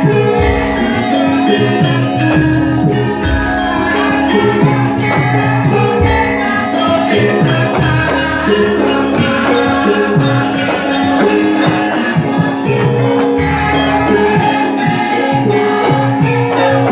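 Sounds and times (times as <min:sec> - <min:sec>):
sustained pitched notes: 0:00.0 - 0:16.9.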